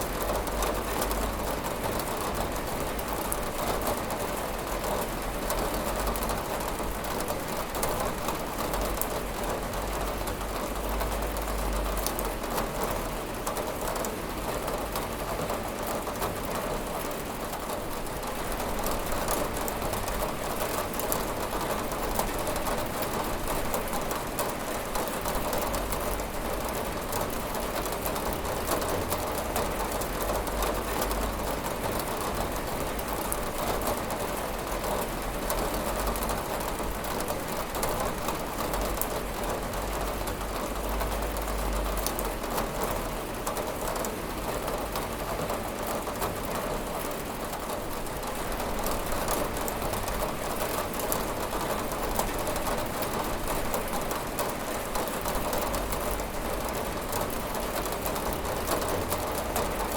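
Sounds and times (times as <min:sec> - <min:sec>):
rain beating on a window: 0:00.0 - 0:59.9.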